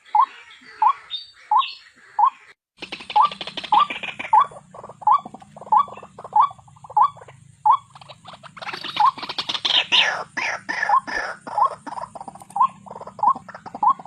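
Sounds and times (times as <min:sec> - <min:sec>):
harsh bird calls: 0:00.0 - 0:14.0.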